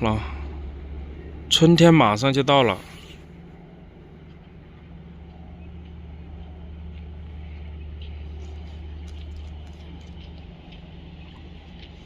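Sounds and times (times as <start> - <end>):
heavy vehicle engine rumble: 0.0 - 12.0.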